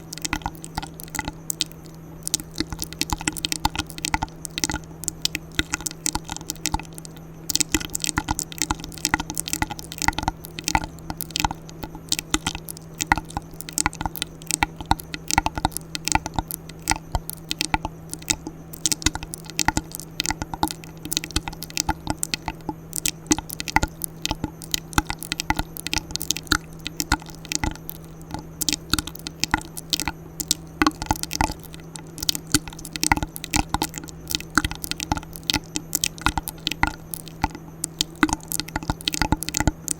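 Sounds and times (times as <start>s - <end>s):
steady low hum: 0.0s - 39.9s
wet mouth clicks and pops: 0.0s - 39.9s.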